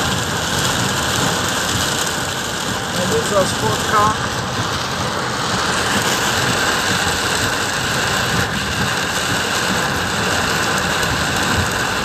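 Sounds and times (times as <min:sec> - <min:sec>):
car engine and tyres: 0:00.0 - 0:12.0
heavy rain on car roof: 0:00.0 - 0:12.0.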